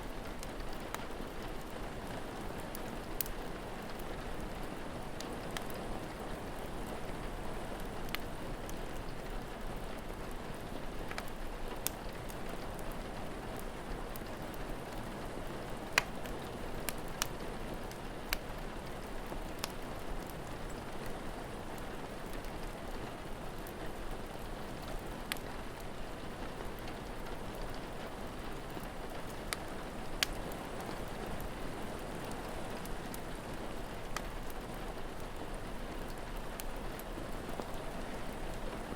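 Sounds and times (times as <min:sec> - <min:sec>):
rain falling: 0:00.0 - 0:38.9
wood fire crackling and popping: 0:00.0 - 0:38.9.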